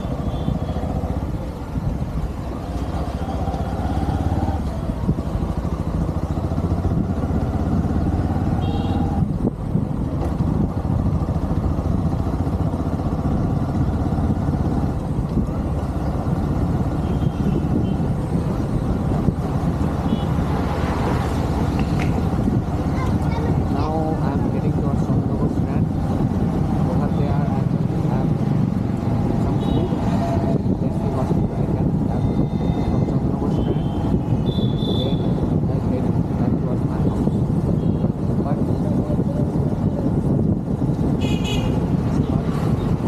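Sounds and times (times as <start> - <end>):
motorcycle engine running: 0.0 - 43.0
road and wind noise: 0.0 - 43.0.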